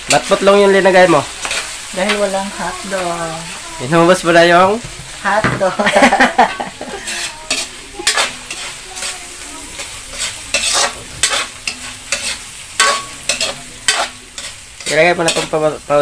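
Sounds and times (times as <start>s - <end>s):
spatula scraping a wok: 0.0s - 5.2s, 6.4s - 15.8s
hotdog sizzling in a wok: 0.0s - 16.0s.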